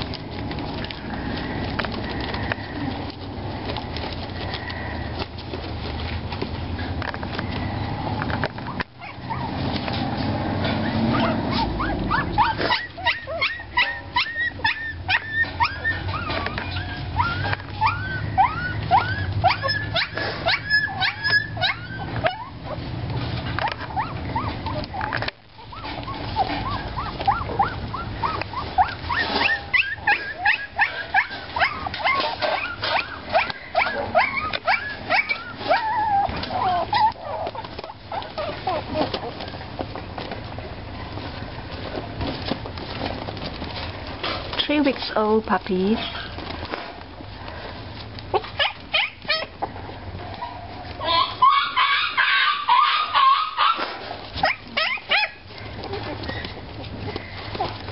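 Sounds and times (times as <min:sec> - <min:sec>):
puppies whimpering and squealing: 0:00.0 - 0:57.9.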